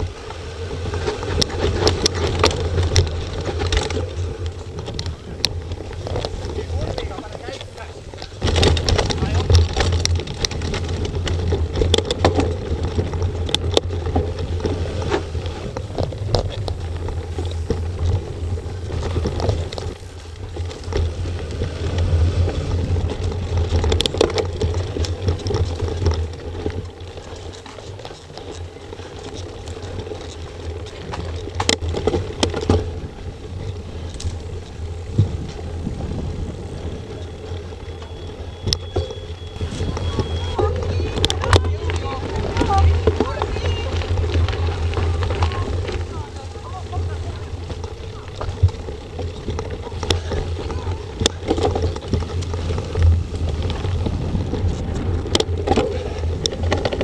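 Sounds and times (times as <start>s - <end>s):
bike rattles and knocks: 0.0s - 57.0s
bike tyres rumbling on trail: 0.0s - 57.0s.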